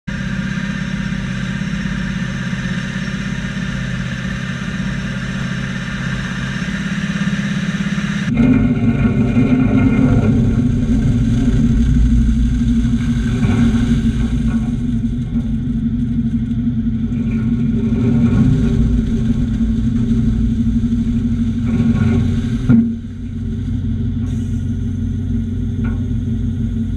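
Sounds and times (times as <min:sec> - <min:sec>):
diesel engine running: 0:00.0 - 0:26.9
rough engine with low hum: 0:00.0 - 0:26.9.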